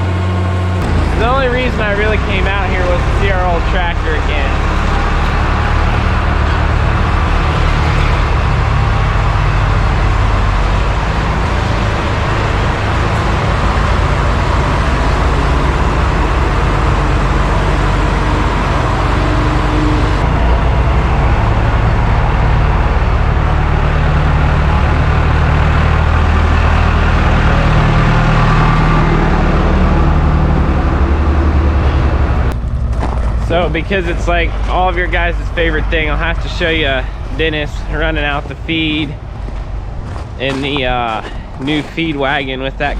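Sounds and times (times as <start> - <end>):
farm machinery engine rumbling: 0.0 - 42.9.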